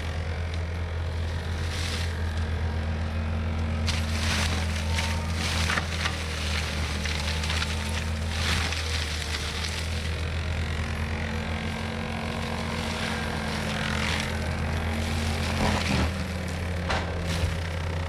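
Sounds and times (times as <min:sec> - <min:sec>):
diesel engine running under load: 0:00.0 - 0:18.0
mulcher shredding brush: 0:00.0 - 0:18.0.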